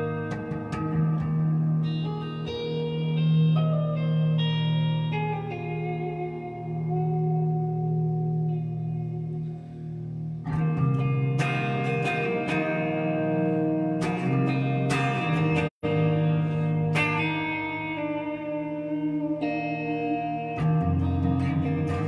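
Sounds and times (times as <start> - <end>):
electric guitar through amplifier: 0.0 - 22.0.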